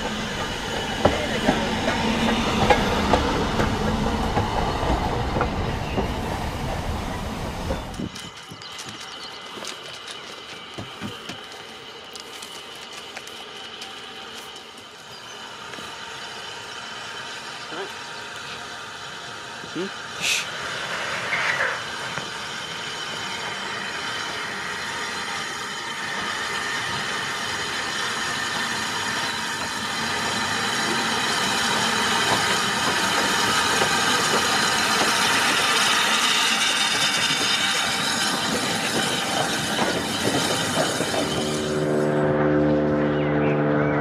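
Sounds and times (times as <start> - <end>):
train wheels and running gear: 0.0 - 42.0
steam locomotive passing: 0.0 - 44.0.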